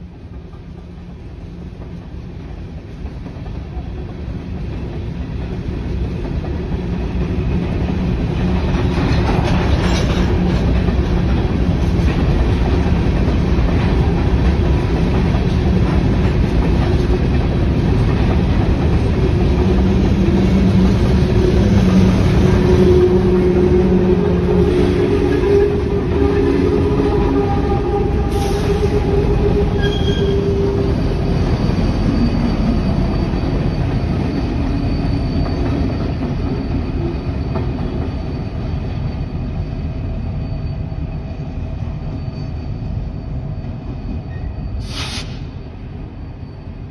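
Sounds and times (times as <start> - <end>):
train clanks: 0.0 - 45.8
freight train wheels rumbling: 0.0 - 46.9
wheels squealing on rails: 0.4 - 46.9.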